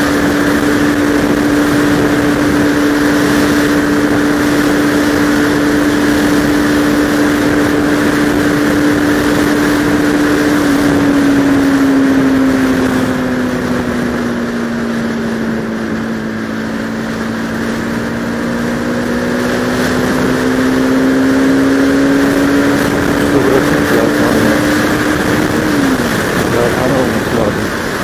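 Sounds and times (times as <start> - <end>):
motorcycle engine running: 0.0 - 28.0
wind rush over microphone: 0.0 - 28.0.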